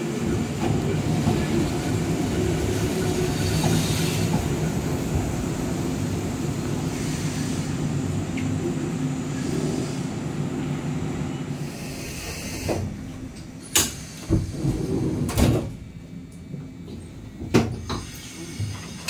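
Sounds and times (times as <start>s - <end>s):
tram rumbling: 0.0s - 17.8s.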